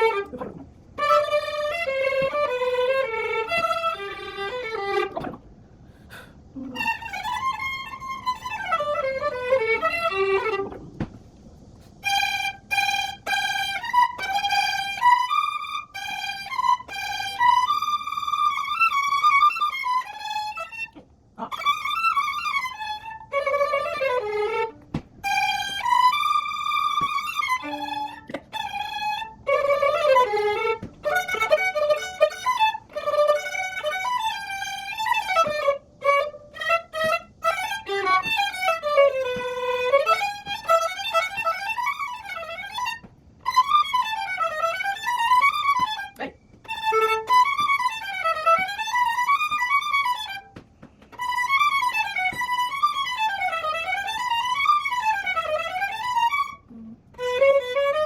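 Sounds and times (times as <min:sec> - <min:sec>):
solo violin playing fast runs: 0:00.0 - 0:05.4, 0:06.6 - 0:11.1, 0:11.9 - 0:58.0.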